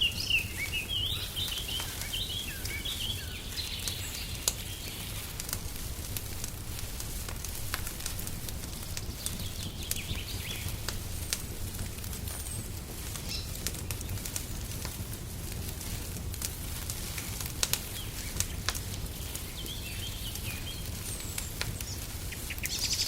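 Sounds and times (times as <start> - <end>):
songbirds chirping: 0.0 - 14.6, 17.7 - 23.0
wood fire crackling: 0.0 - 23.0.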